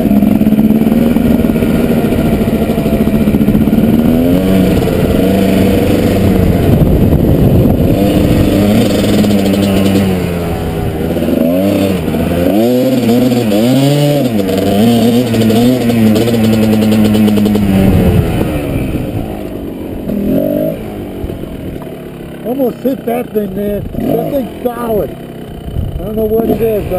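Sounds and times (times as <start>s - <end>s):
two-stroke dirt bike engine revving: 0.0s - 26.9s.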